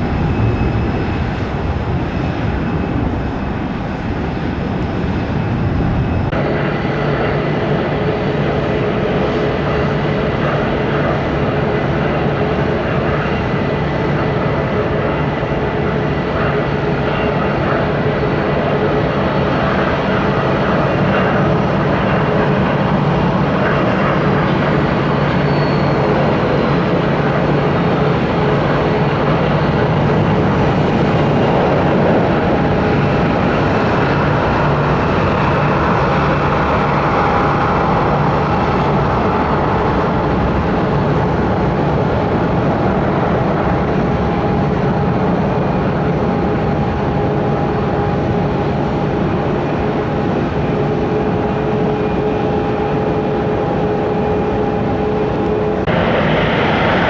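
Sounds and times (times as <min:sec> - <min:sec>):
engine fan whine: 0:00.0 - 0:57.0
jet airliner landing: 0:00.0 - 0:57.0.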